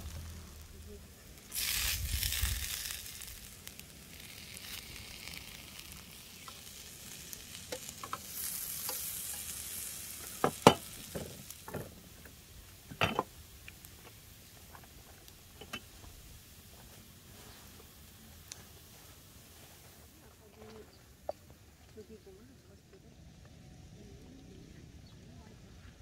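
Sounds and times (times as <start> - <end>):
food sizzling in a pan: 0.0 - 20.9.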